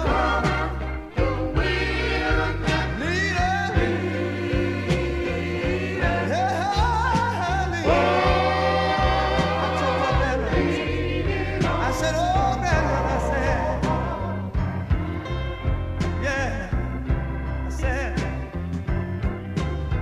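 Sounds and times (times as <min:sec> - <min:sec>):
bass line: 0:00.0 - 0:20.0
gospel group singing: 0:00.0 - 0:20.0.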